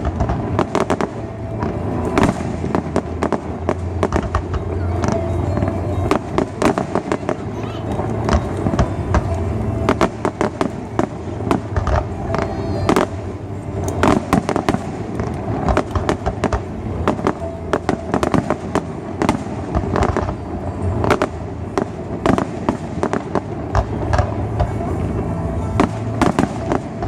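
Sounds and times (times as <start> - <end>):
firework shell bursts crackling: 0.0 - 27.0
low background rumble: 0.0 - 27.0.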